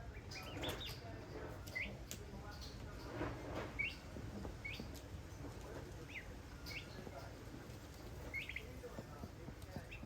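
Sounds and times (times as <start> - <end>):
chick peeping: 0.1 - 3.1, 3.7 - 5.0, 6.0 - 10.0.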